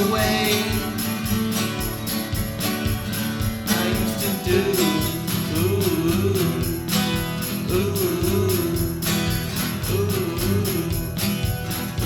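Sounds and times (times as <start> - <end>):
guitar repeating figure: 0.0 - 12.0
high percussion hits: 0.0 - 12.0
looped drum beat: 0.0 - 12.0.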